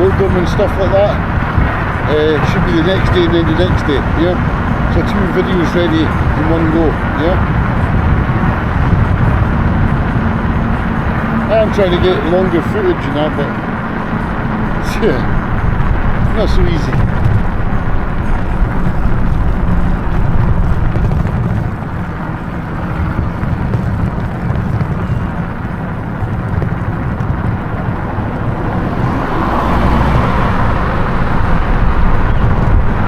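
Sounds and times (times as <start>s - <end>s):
tyre and road rumble: 0.0s - 33.0s
wind buffeting microphone: 0.0s - 33.0s.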